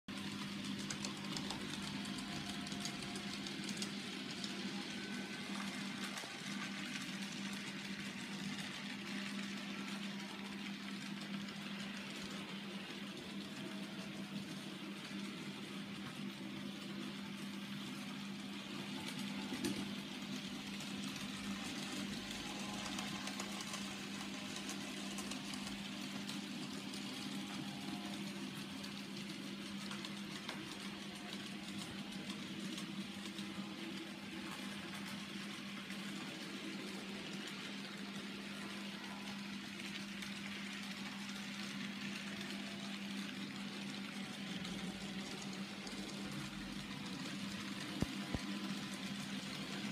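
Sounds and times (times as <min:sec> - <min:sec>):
model train motor hum: 0:00.1 - 0:49.9
small wheels rumbling on rails: 0:00.1 - 0:49.9.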